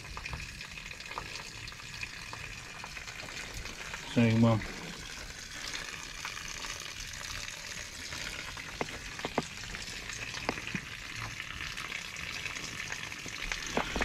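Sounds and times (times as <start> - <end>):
hose water running into barrel: 0.0 - 14.0.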